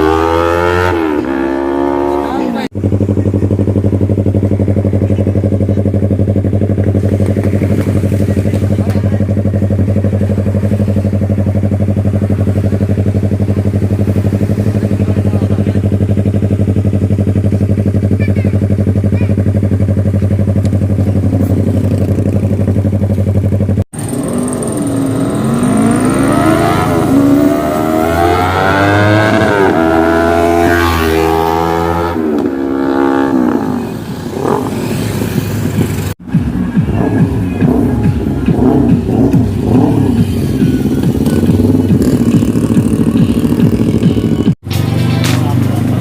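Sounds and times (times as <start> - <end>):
motorcycle engine idling: 2.6 - 32.0, 32.8 - 46.0.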